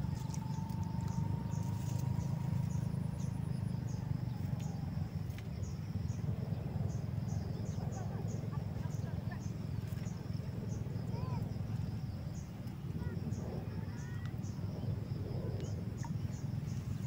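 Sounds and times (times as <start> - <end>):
insects chirping: 0.0 - 17.0
steady low rumble: 0.0 - 17.0.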